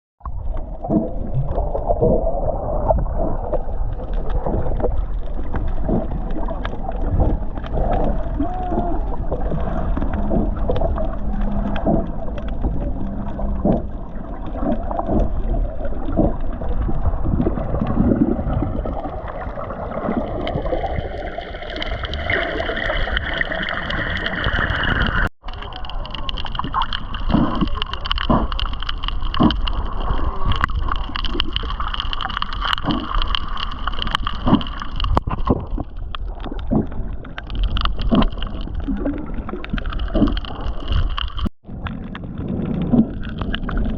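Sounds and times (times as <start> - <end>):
underwater knocks and bumps: 0.2 - 43.9
water sloshing underwater: 0.2 - 43.9.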